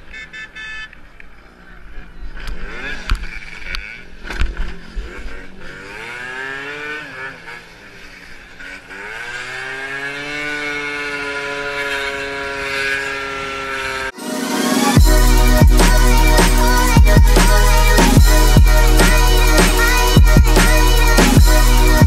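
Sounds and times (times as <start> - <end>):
motorcycle engine revving: 1.7 - 14.2, 15.0 - 22.0.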